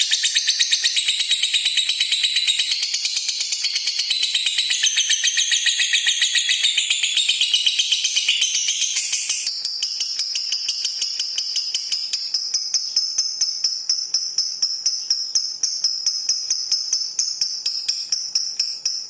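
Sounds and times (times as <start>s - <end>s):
lovebird trilling: 0.0s - 19.0s.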